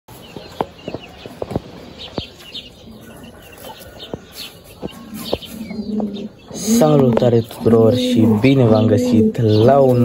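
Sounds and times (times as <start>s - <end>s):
chicks peeping: 0.1s - 10.0s.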